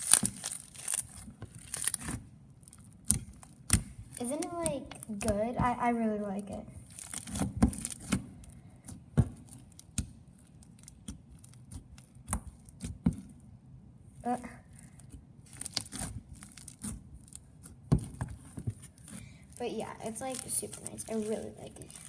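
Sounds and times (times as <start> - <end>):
crunchy slime crackling: 0.0 - 22.0.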